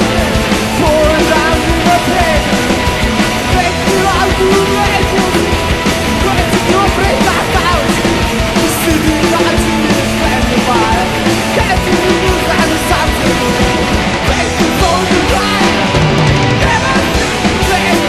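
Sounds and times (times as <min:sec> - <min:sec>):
live progressive rock band: 0:00.0 - 0:18.0.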